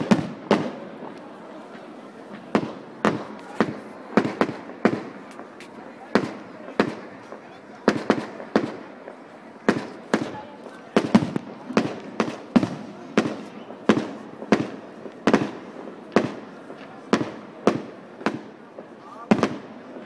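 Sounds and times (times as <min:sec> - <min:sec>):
fireworks bursting with echo: 0:00.0 - 0:20.0.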